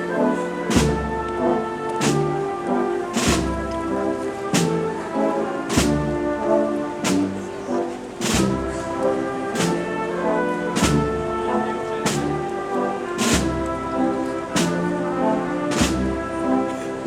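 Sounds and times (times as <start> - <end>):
wind band playing slow march: 0.0 - 17.0.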